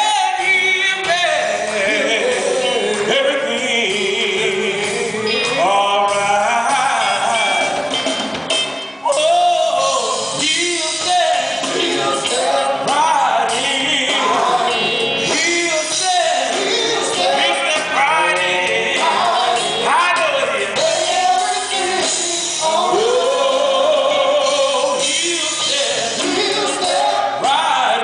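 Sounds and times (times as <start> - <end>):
gospel group singing: 0.0 - 28.0
musical accompaniment: 0.0 - 28.0.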